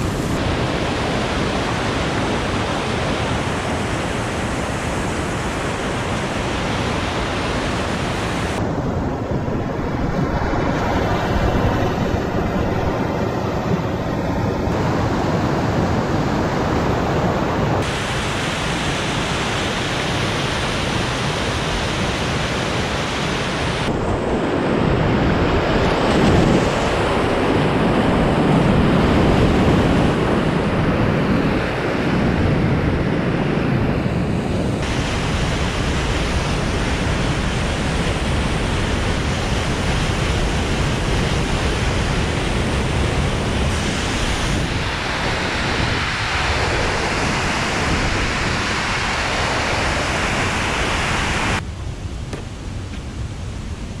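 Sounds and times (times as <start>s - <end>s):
river rapids roaring: 0.0s - 30.6s, 34.1s - 53.9s.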